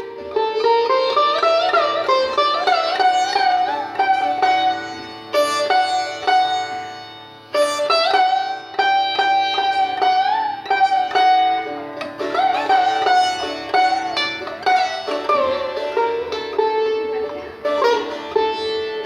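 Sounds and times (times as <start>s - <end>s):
plucked string instrument music: 0.0s - 19.0s.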